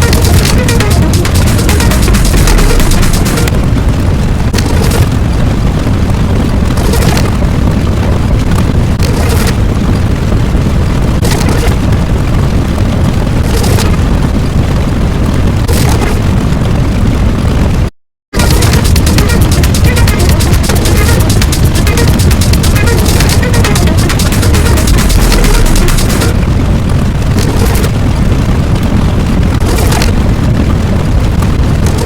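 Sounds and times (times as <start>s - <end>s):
crackling bursts: 0.0s - 32.0s
deep explosion rumble: 0.0s - 32.0s.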